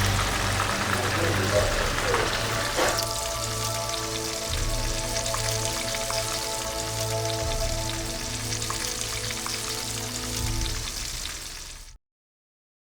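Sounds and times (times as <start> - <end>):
background music: 0.0 - 12.0
meat frying in grease: 0.0 - 12.0.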